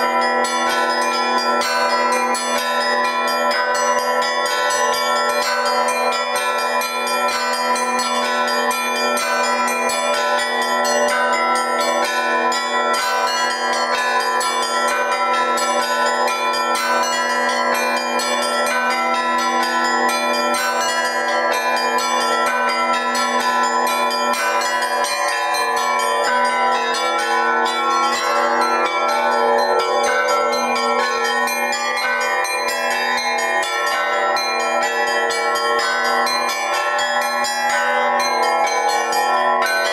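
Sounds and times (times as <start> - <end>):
large bells sounding: 0.0 - 39.9
small bells ringing quickly: 0.0 - 39.9.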